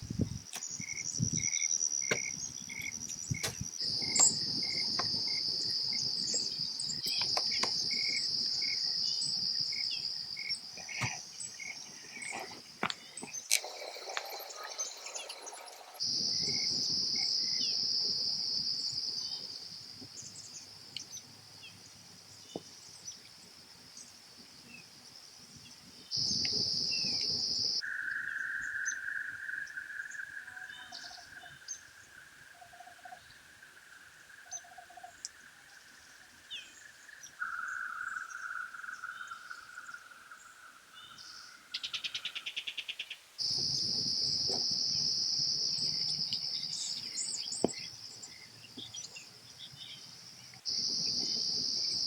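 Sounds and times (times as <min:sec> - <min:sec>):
high insect trill: 0:00.0 - 0:21.7, 0:23.9 - 0:35.8, 0:43.4 - 0:52.0
lower insect trill: 0:00.0 - 0:42.6, 0:43.4 - 0:52.0.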